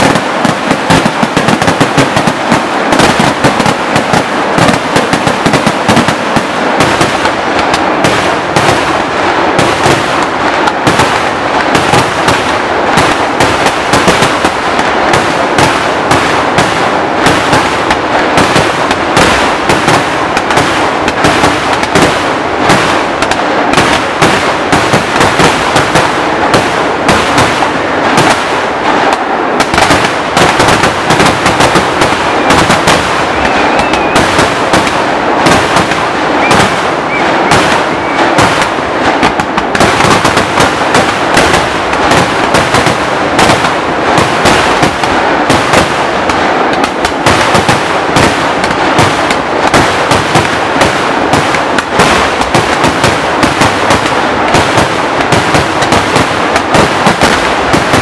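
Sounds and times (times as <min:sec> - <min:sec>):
fireworks banging and crackling: 0:00.0 - 0:58.0.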